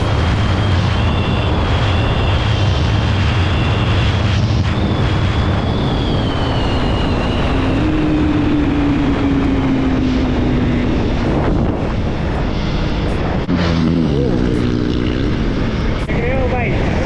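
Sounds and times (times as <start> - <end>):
motorcycle engine running hard: 0.0 - 16.7
thin high whine: 0.0 - 16.9
wind rush: 0.0 - 17.0.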